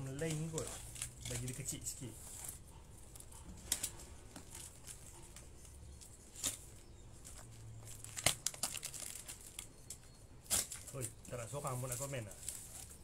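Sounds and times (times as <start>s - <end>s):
cardboard and tape crackling: 0.0s - 13.0s.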